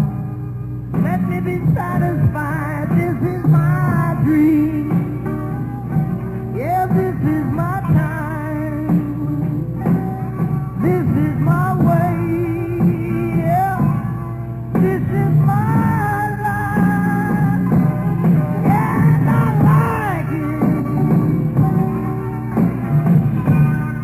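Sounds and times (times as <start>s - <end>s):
bass: 0.0s - 24.0s
drums: 0.0s - 24.0s
lead guitar bending lines: 0.0s - 24.0s.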